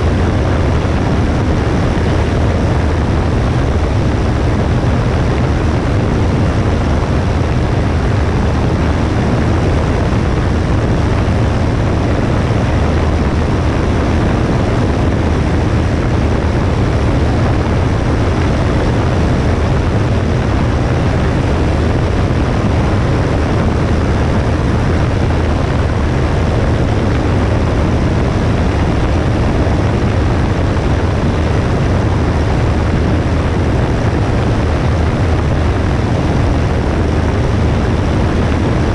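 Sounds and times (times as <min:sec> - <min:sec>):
airplane engine and propeller drone: 0:00.0 - 0:38.9
wind rushing noise: 0:00.0 - 0:38.9.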